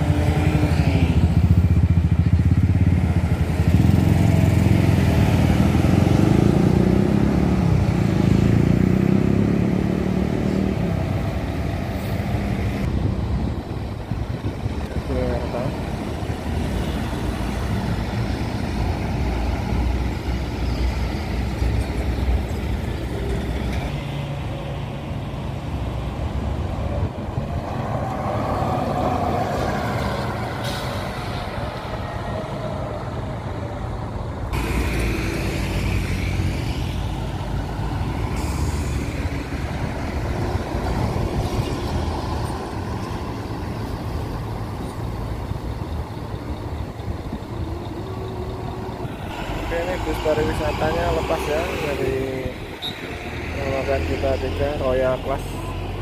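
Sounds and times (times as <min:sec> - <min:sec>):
buses and trucks driving past: 0:00.0 - 0:56.0.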